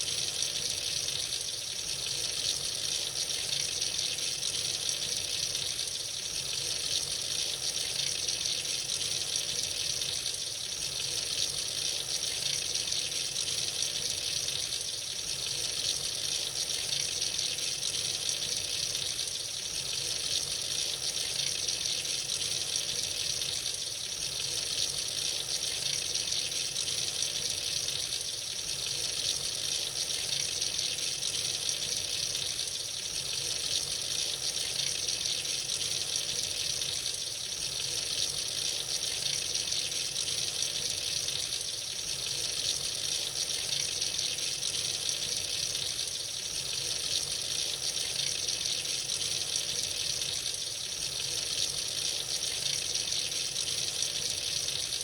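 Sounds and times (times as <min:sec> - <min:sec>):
tap water running into a sink: 0:00.0 - 0:55.0.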